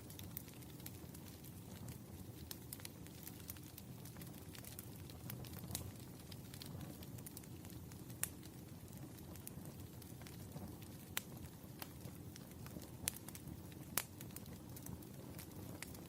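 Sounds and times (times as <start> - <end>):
firewood crackles and pops: 0.0 - 16.0
low rumble of flames: 0.0 - 16.0.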